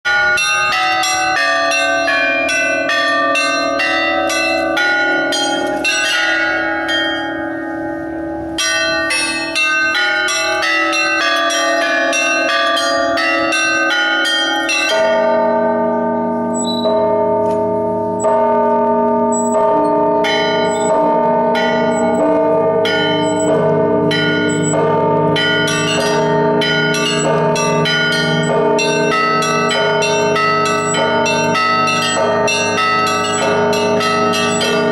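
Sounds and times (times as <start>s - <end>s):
small high bells struck fast: 0.1s - 7.4s, 8.6s - 17.0s, 19.3s - 34.9s
deep church bells: 0.1s - 34.9s
larger church bells ringing: 0.1s - 34.9s.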